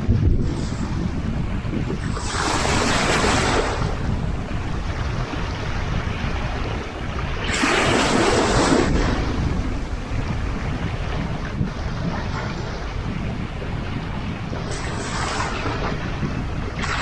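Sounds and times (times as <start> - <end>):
waves washing onto shore: 0.0 - 17.0
wind rumble on microphone: 0.0 - 17.0.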